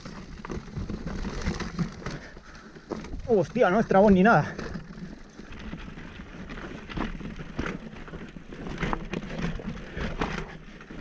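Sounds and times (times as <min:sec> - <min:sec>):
bike rattling over stones: 0:00.0 - 0:11.0.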